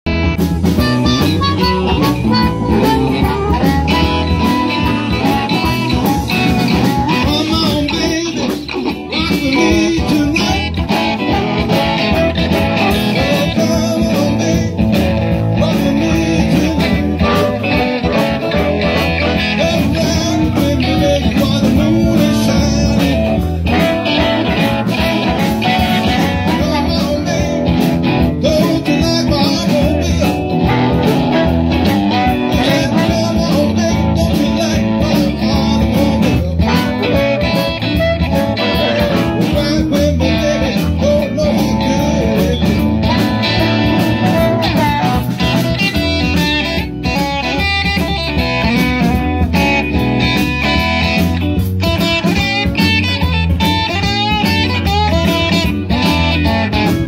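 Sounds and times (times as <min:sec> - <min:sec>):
drums: 0:00.0 - 0:57.0
electric guitars: 0:00.0 - 0:57.0
harmonica: 0:00.1 - 0:57.0.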